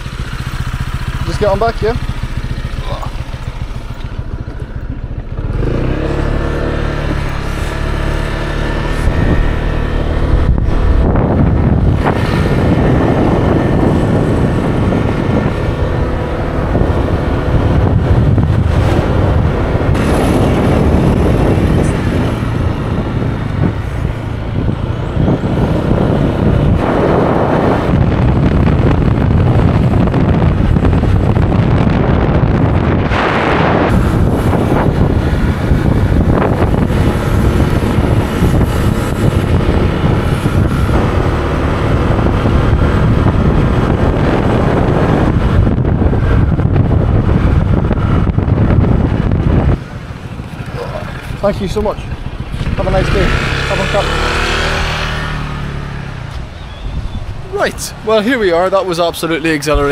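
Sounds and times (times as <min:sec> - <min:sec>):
motorbike engine accelerating: 0:00.0 - 0:59.9
wind rushing over microphone: 0:00.0 - 0:59.9.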